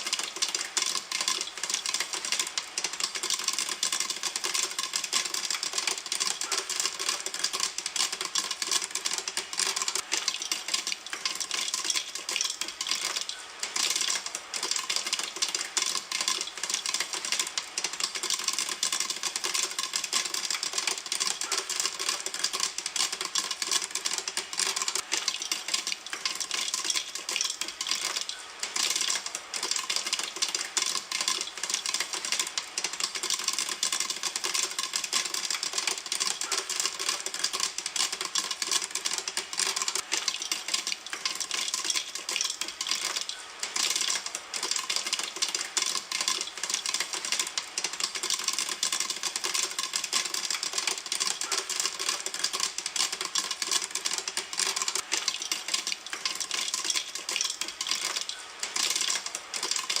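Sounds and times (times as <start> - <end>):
popcorn popping in a pan: 0.0 - 60.0.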